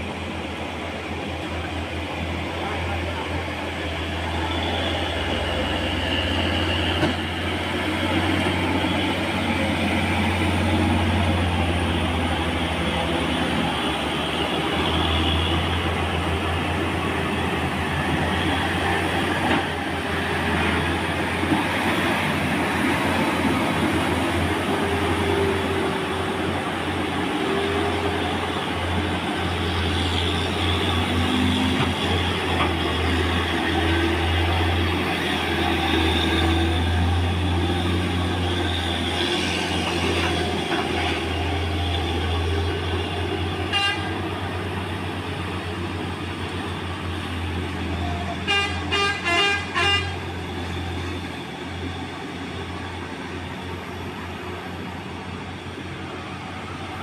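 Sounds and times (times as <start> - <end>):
passing traffic: 0.0 - 57.0
truck diesel engines labouring: 0.0 - 57.0.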